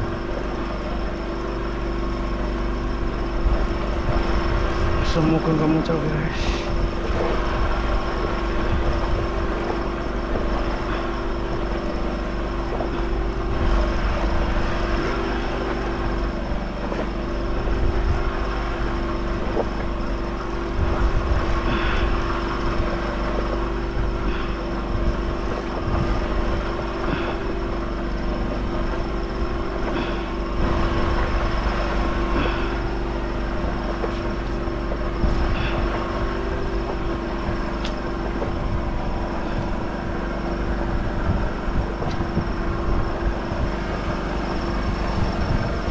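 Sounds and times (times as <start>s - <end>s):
generator engine hum: 0.0s - 45.9s.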